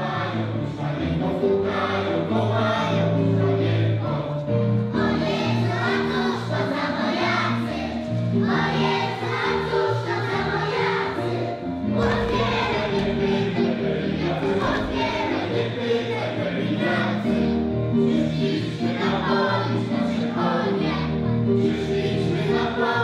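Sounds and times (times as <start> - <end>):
children singing: 0.0 - 23.0
instrumental accompaniment with bass: 0.0 - 23.0.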